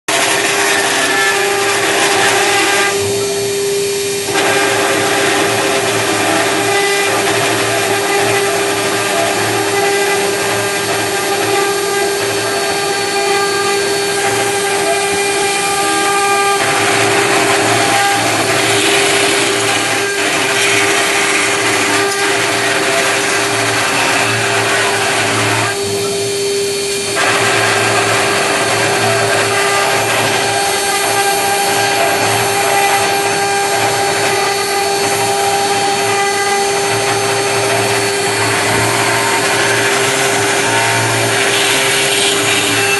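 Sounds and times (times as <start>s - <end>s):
cutter engraving noise: 0.1s - 42.9s
router spindle whine: 0.1s - 42.9s.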